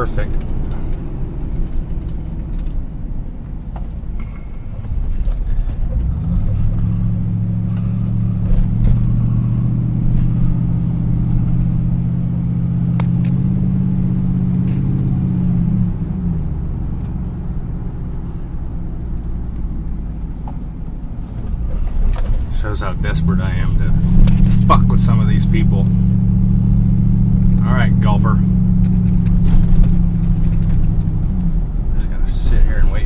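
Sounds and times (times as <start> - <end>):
car engine: 0.0 - 33.0
road rumble inside car: 0.0 - 33.0.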